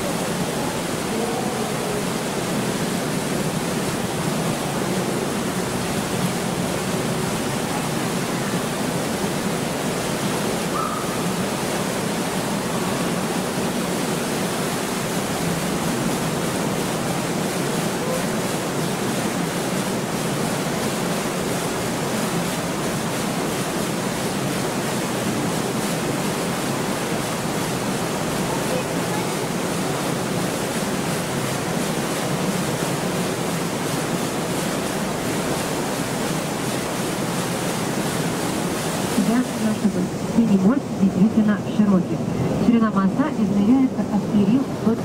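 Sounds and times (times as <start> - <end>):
boat motor and water wash: 0.0 - 45.0.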